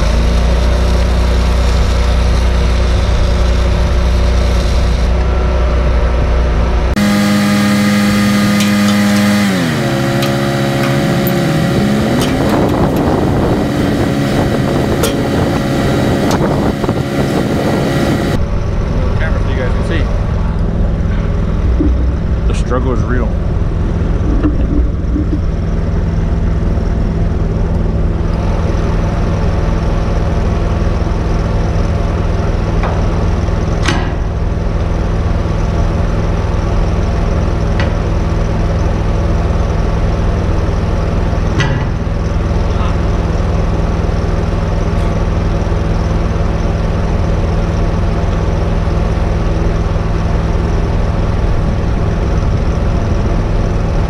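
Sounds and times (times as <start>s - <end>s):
welder engine running: 0.0s - 54.0s.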